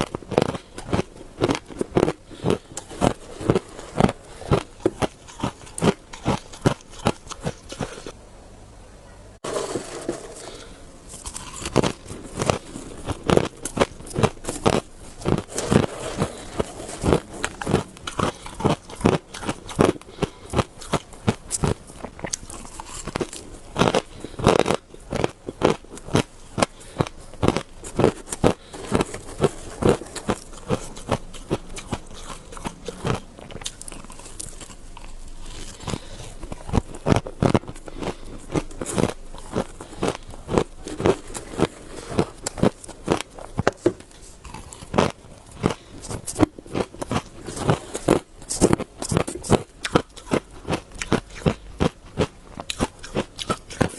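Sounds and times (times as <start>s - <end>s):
chewing crunchy shaved ice: 0.0s - 8.2s, 9.4s - 53.9s.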